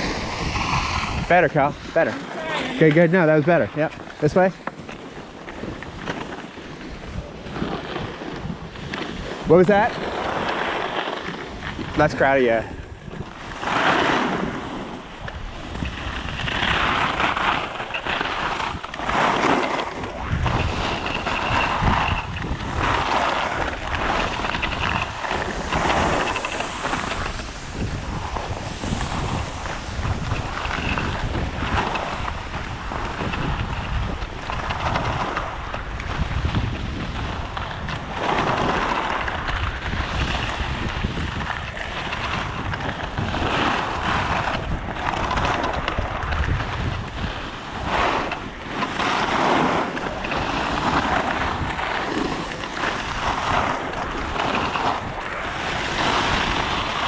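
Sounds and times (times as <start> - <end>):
skis carving on snow: 0.0 - 57.0
wind rumble on microphone: 0.0 - 57.0.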